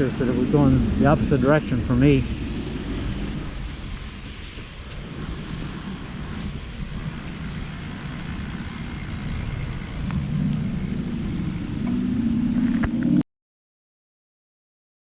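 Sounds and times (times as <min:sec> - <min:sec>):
bicycle road noise: 0:00.0 - 0:13.2
wind rumble on microphone: 0:00.0 - 0:13.2.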